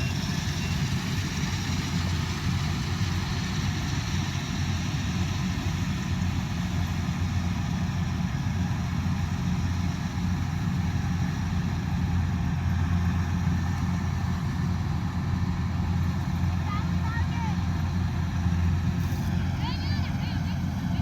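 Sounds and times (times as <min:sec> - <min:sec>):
combine harvester engine running: 0:00.0 - 0:21.0.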